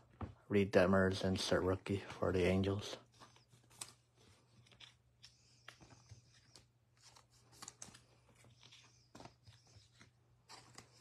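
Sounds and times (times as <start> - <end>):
trading cards rustling and clicking: 1.9 - 11.0.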